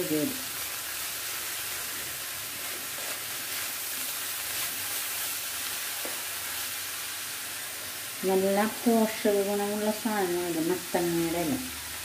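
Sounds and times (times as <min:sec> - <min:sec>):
leaves sizzling in oil: 0:00.0 - 0:12.0.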